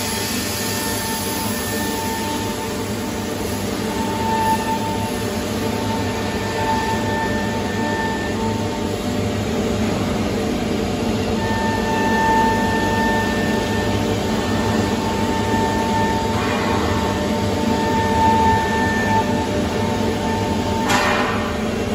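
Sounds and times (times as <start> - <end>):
high machine whine: 0.0 - 21.9.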